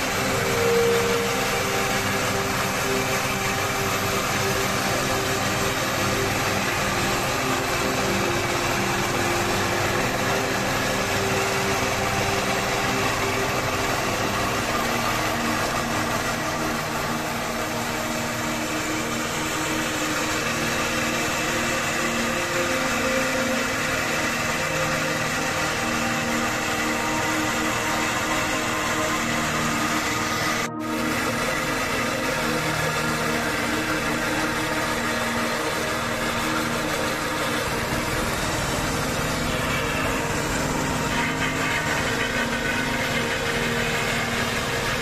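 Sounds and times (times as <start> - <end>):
continuous noisy whir: 0.0 - 45.0
machine engine running: 0.0 - 45.0.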